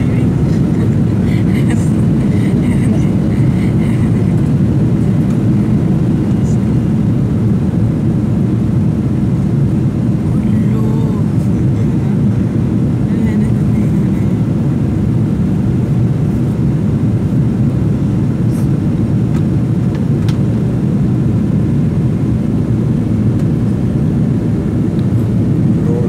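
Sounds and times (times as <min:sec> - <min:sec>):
jet engines roaring in cabin: 0:00.0 - 0:26.0.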